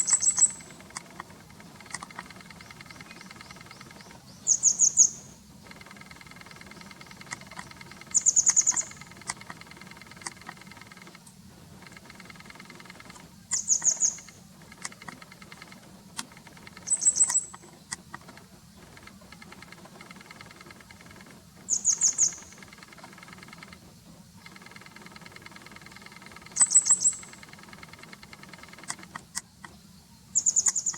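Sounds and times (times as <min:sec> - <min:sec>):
bird calling sharp notes: 0:00.0 - 0:11.1, 0:11.8 - 0:15.8, 0:16.4 - 0:18.1, 0:18.8 - 0:23.8, 0:24.4 - 0:29.1, 0:30.4 - 0:30.9
faint steady hum: 0:00.0 - 0:30.9.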